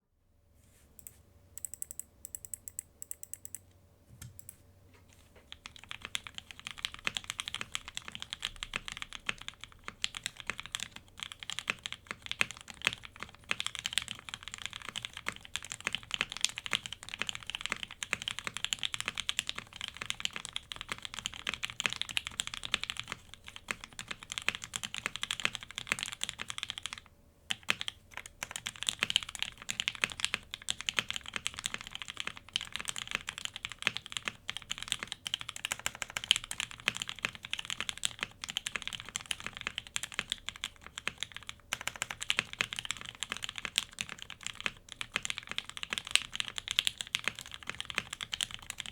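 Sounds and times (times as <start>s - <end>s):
mechanical keyboard typing: 1.0s - 3.6s, 5.5s - 48.9s.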